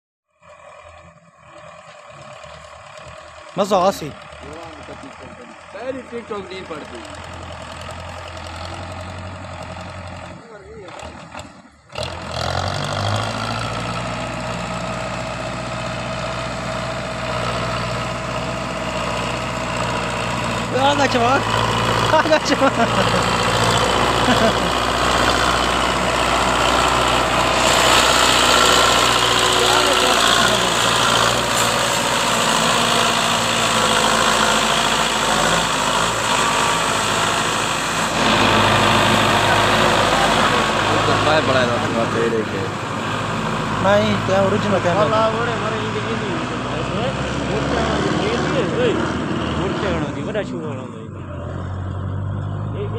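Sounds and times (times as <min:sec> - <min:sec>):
tractor diesel engine running: 0:00.3 - 0:52.9.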